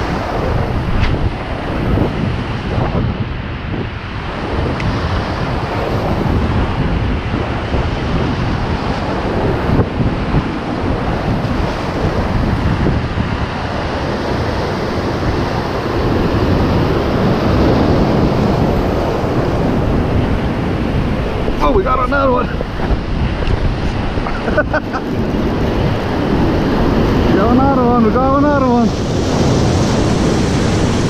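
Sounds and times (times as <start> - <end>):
surf breaking over rocks: 0.0 - 31.0
wind buffeting microphone: 0.0 - 31.0.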